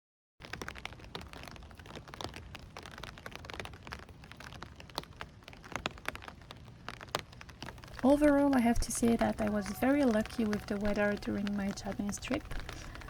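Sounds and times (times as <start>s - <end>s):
drops ticking on surfaces: 0.4s - 13.0s
rain falling: 0.4s - 13.0s.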